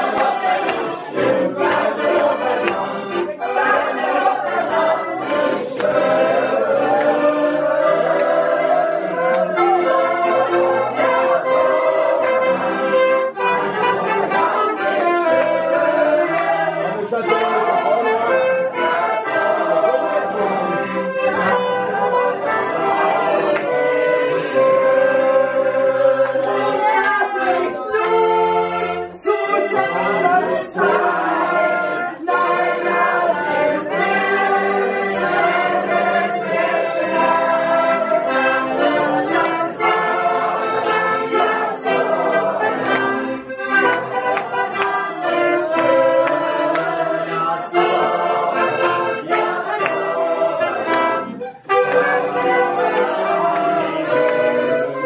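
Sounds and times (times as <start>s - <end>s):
accordion and trumpet folk tune: 0.0s - 55.0s
audience clapping along: 0.0s - 55.0s.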